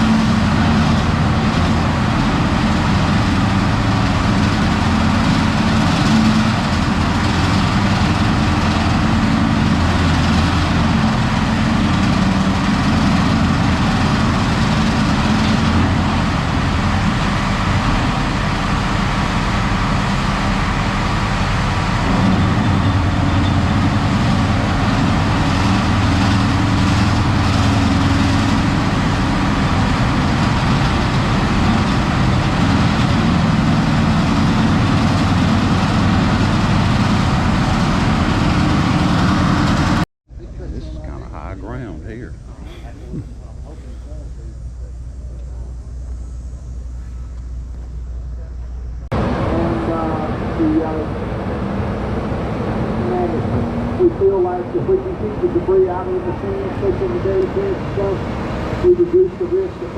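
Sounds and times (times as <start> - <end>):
heavy machine engine under load: 0.0 - 41.6, 45.7 - 59.9.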